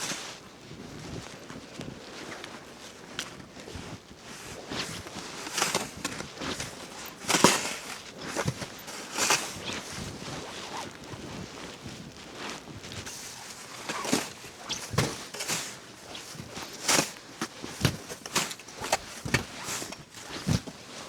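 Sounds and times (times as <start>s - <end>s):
footsteps crunching in deep snow: 3.8s - 21.0s.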